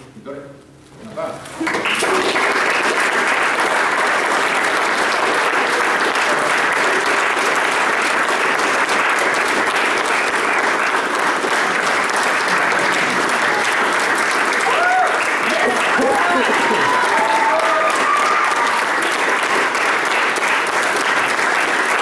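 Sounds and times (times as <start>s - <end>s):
group clapping: 1.5s - 22.0s.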